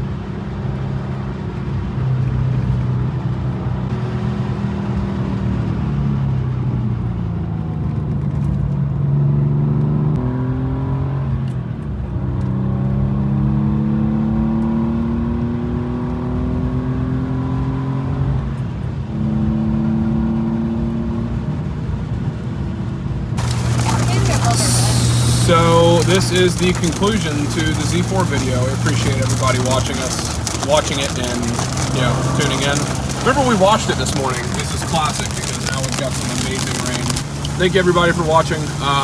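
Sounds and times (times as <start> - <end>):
car engine accelerating: 1.3 - 39.0.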